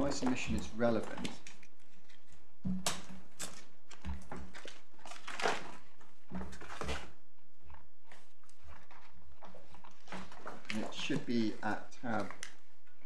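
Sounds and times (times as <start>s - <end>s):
paper rustling: 0.0s - 2.5s, 3.4s - 12.6s.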